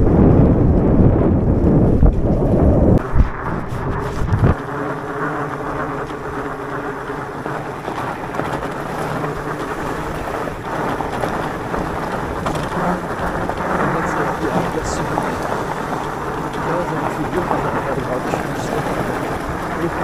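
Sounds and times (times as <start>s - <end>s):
bike tyres on gravel: 0.0s - 20.0s
wind buffeting microphone: 0.0s - 20.0s
faint motor hum: 3.0s - 20.0s.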